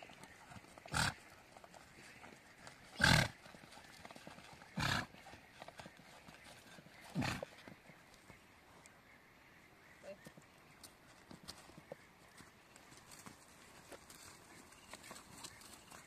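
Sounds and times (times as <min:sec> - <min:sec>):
donkey hooves on stony slope: 0:00.0 - 0:08.8, 0:10.1 - 0:16.0.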